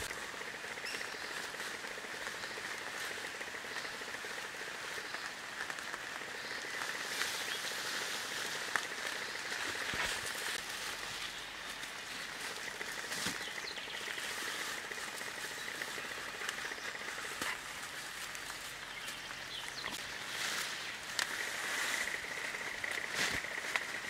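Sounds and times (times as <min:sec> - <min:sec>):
branches snapping and crackling: 0:00.0 - 0:24.0
high hiss of forest ambience: 0:00.0 - 0:24.0
leafy branches rustling: 0:00.0 - 0:24.0.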